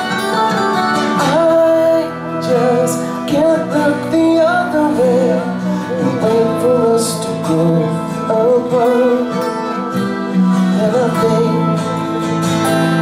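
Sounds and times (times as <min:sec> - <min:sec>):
acoustic guitar strumming: 0:00.0 - 0:13.0
electric guitar: 0:00.0 - 0:13.0.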